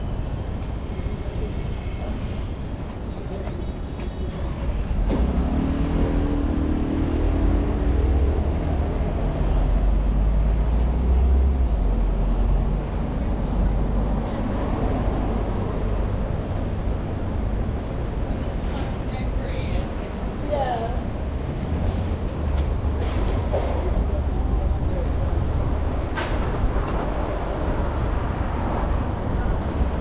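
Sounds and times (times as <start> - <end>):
heavy vehicle engine rumble: 0.0 - 30.0
traffic noise: 0.0 - 30.0.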